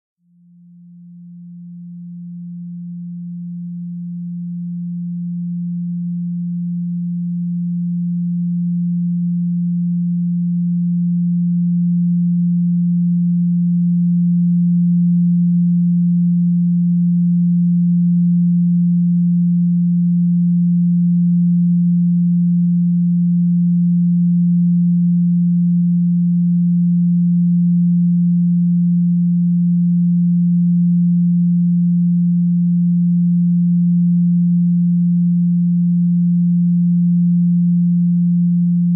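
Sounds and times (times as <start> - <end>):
steady pure sine tone: 0.2 - 38.9.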